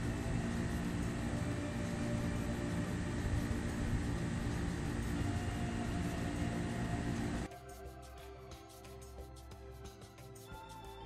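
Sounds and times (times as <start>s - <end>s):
mechanical hum with low tones: 0.0s - 11.0s.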